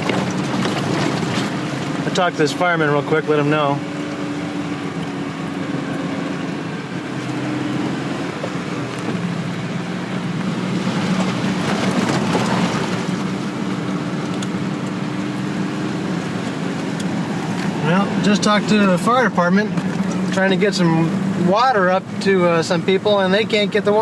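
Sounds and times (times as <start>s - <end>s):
car engine running: 0.0s - 24.0s
road noise rush: 0.0s - 24.0s.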